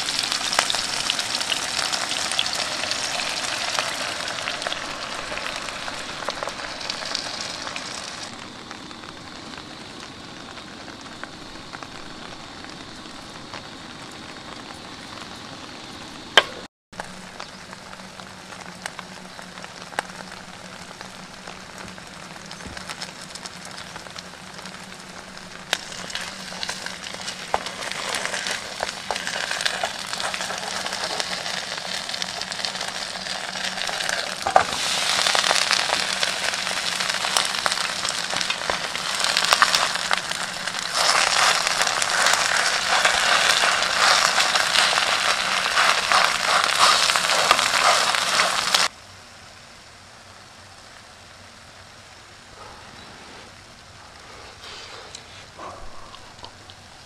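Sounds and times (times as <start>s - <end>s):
broth boiling hard in a pot: 0.0s - 52.6s.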